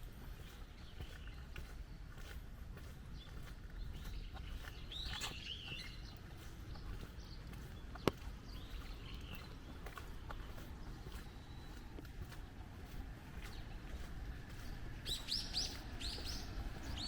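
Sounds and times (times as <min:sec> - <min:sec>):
footsteps on wet pavement: 0:00.0 - 0:17.0
birds chirping: 0:00.2 - 0:17.0.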